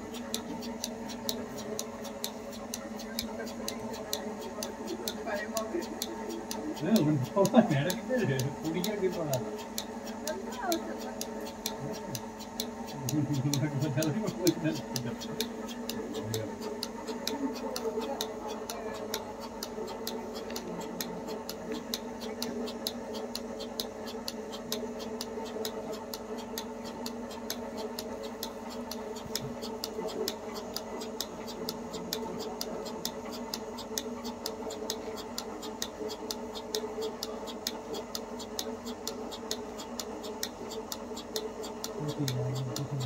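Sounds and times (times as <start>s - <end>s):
milking machine pulsator clicking: 0.0s - 43.0s
vacuum pump humming: 0.0s - 43.0s.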